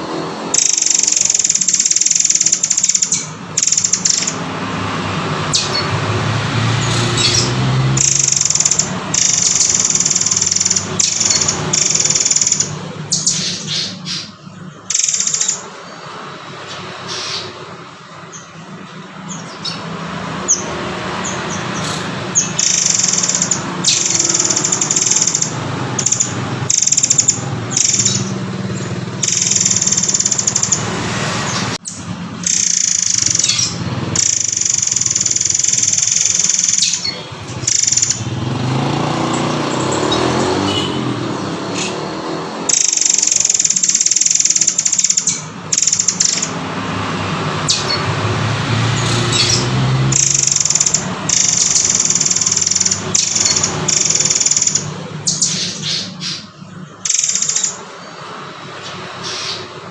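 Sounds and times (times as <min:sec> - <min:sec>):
bird singing high phrases: 0:00.0 - 0:59.9
steady background noise: 0:00.0 - 0:59.9.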